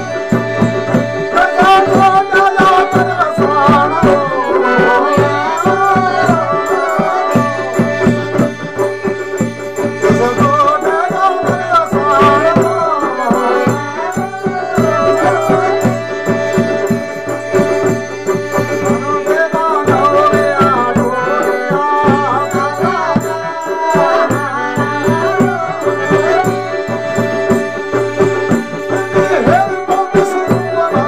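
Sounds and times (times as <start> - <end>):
harmonium drone and melody: 0.0 - 31.0.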